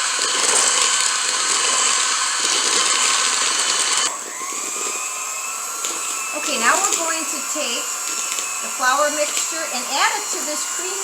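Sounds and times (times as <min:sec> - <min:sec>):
electric hand mixer running: 0:00.0 - 0:11.0.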